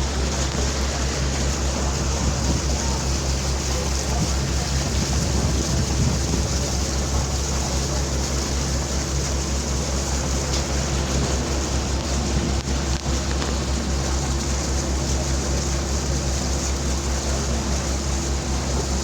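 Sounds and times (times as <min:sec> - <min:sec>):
boat engine droning: 0:00.0 - 0:19.0
rush of wind and water: 0:00.0 - 0:19.0.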